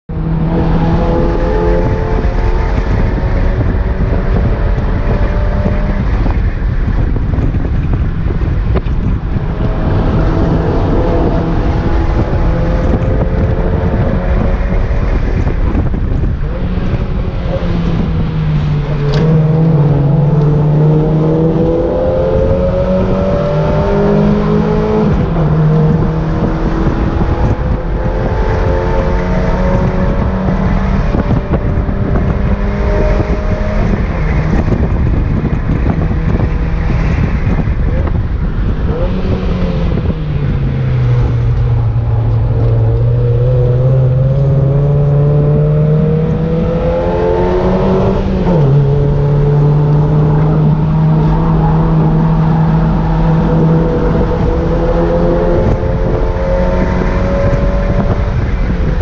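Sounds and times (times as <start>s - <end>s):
car engine revving hard: 0.1s - 7.0s, 9.1s - 59.0s
wind rushing: 0.1s - 59.0s.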